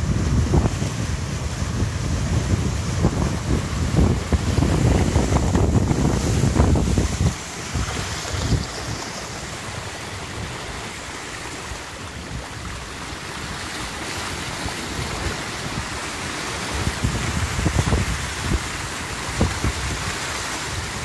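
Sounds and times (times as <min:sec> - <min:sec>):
water rushing in boat wake: 0:00.0 - 0:21.0
wind gust on microphone: 0:00.0 - 0:21.0.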